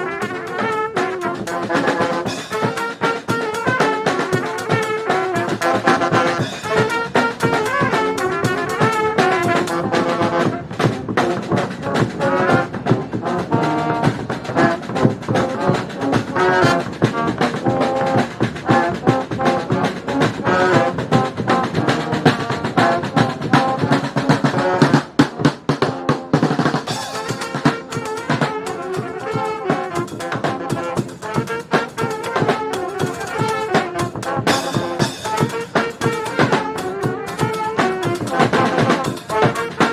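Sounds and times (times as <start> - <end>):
drum beat: 0.0 - 39.9
trumpets and trombones: 0.0 - 39.9.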